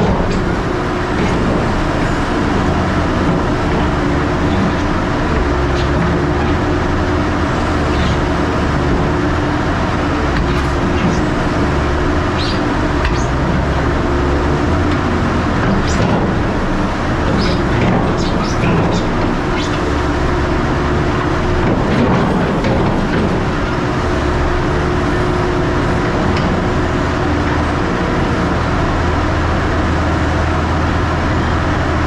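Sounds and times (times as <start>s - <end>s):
heavy machinery engine hum: 0.0s - 32.0s.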